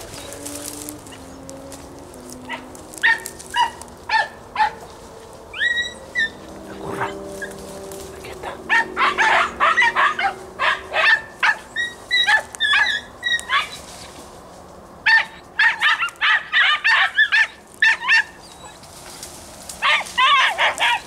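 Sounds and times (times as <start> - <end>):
hunting dogs yelping: 0.0 - 7.8, 8.4 - 14.2, 15.0 - 21.0.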